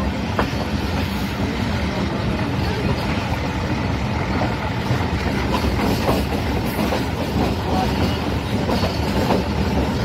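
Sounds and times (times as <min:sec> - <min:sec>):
train rumbling and rattling: 0:00.0 - 0:10.0.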